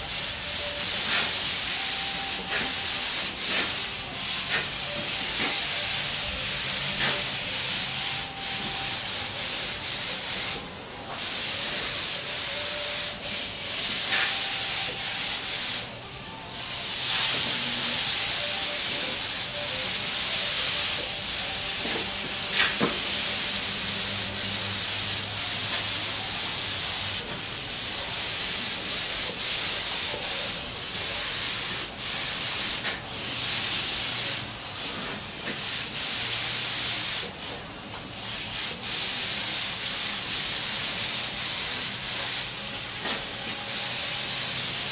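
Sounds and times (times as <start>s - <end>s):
spray paint hissing: 0.0s - 16.0s, 16.8s - 44.9s.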